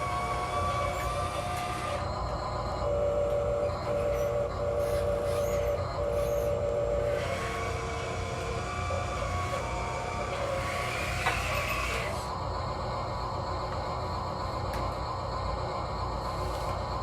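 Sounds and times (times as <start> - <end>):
electric motor and gear whine: 0.0 - 17.0.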